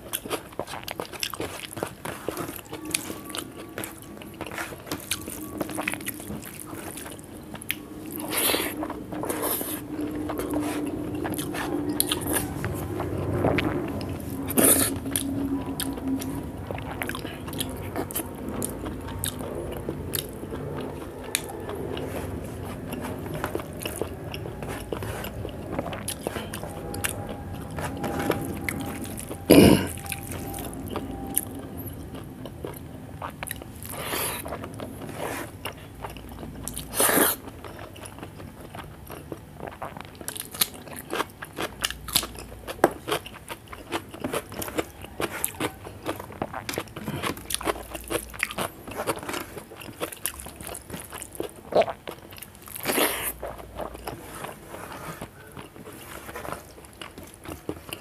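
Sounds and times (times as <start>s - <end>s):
person chewing and lip smacking: 0.0s - 58.0s.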